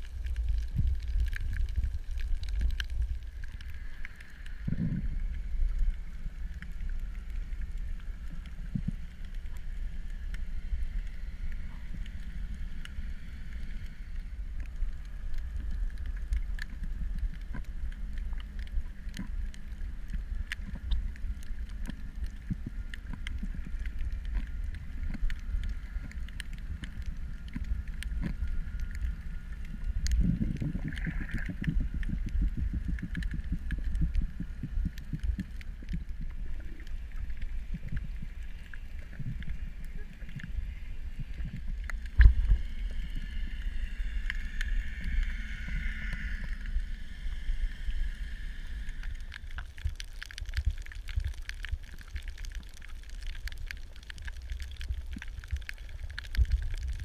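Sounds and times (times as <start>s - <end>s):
faint steady hum: 0.0s - 57.0s
low underwater rumble: 0.0s - 57.0s.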